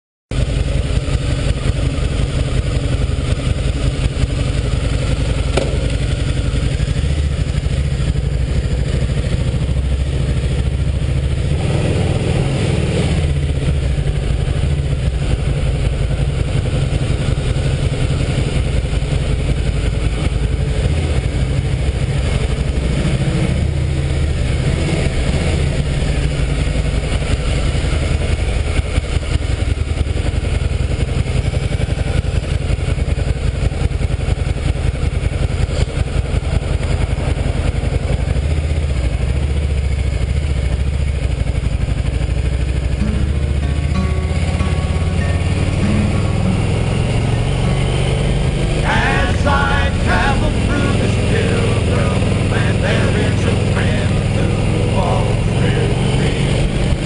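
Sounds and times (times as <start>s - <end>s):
motorcycle engine running: 0.3s - 57.0s.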